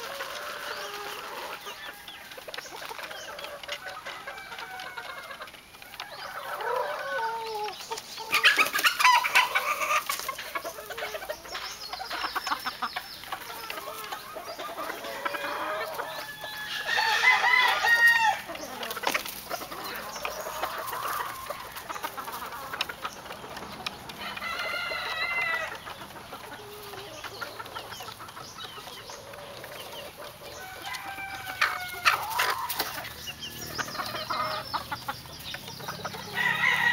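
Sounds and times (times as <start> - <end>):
chickens clucking: 0.0 - 36.9
roosters crowing: 0.0 - 36.9.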